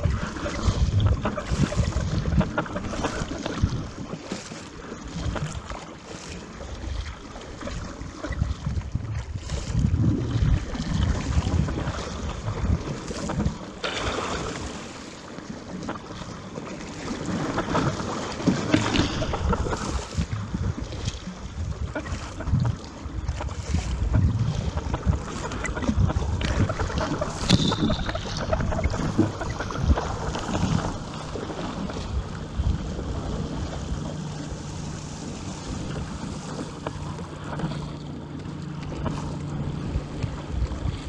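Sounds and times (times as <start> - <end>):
wind buffeting microphone: 0.0 - 4.1, 7.8 - 14.7, 17.0 - 38.3, 38.9 - 41.0
sea water splashing: 0.0 - 41.0.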